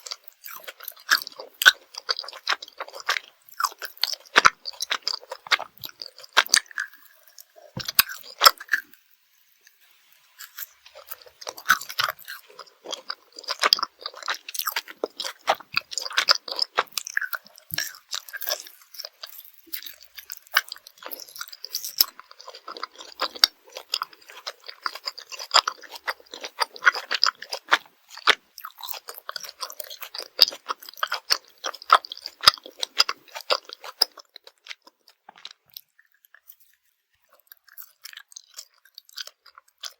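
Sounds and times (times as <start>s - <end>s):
wet sticky chewing: 0.0s - 9.0s, 10.1s - 39.9s.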